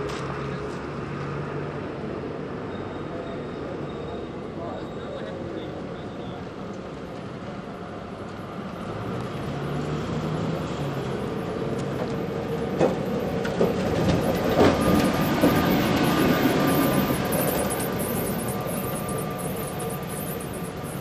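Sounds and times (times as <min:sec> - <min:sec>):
tram rolling on rails: 0:00.0 - 0:21.0
wheels clacking on track: 0:02.5 - 0:21.0.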